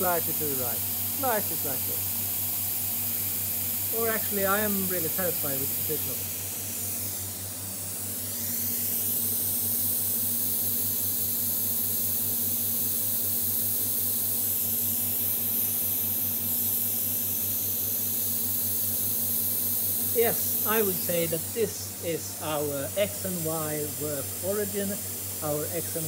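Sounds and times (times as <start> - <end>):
vacuum pump hissing and humming: 0.0 - 26.0.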